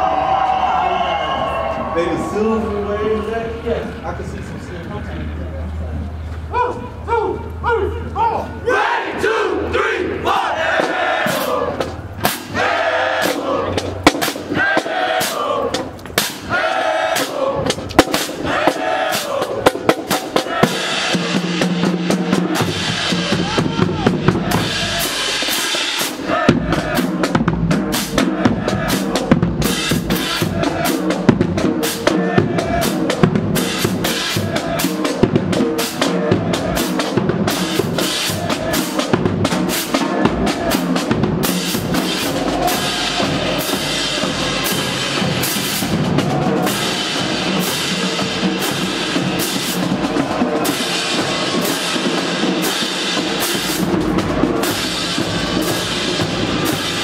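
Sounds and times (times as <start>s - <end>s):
marching bass drums: 9.5s - 57.0s
snare drums: 10.2s - 57.0s.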